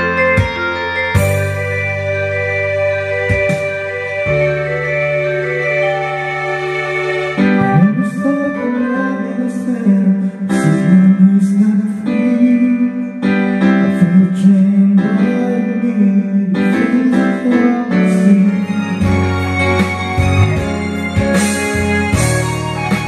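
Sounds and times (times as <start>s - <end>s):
slow karaoke song: 0.0s - 23.0s.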